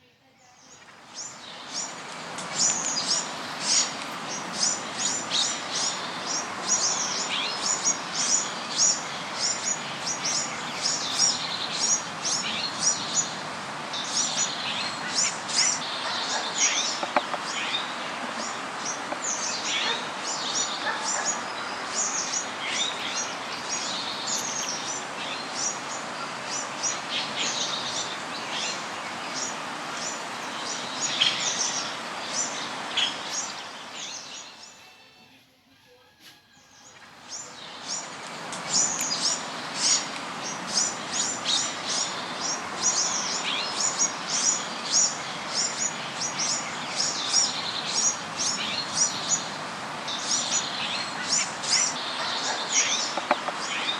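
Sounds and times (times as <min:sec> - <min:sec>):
steady background hiss: 0:00.0 - 0:53.9
small birds chirping: 0:00.3 - 0:35.5, 0:36.6 - 0:53.9.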